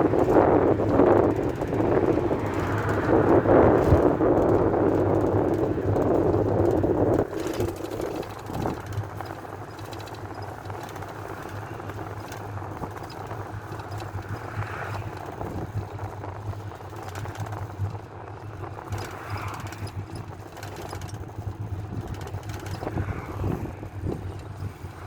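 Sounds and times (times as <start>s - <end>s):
minibus engine hum: 0.0s - 25.0s
road and cabin noise: 0.0s - 25.0s.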